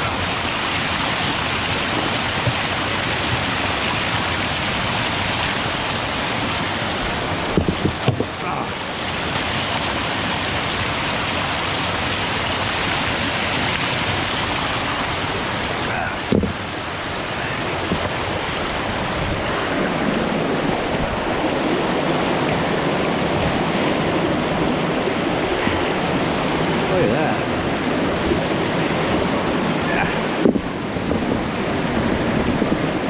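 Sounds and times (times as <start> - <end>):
creek water rushing: 0.0 - 33.0.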